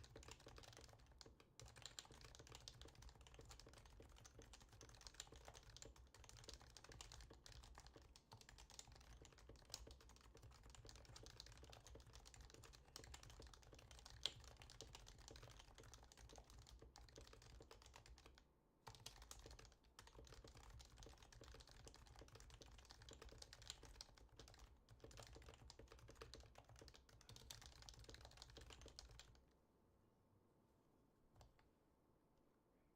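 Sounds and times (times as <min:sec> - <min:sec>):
keyboard typing: 0:00.0 - 0:29.4.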